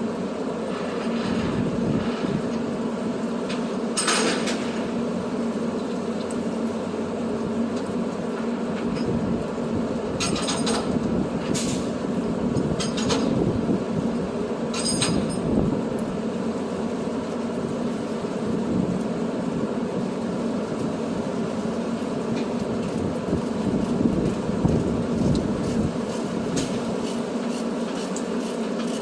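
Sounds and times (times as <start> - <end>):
heavy truck engine running: 0.0 - 29.0.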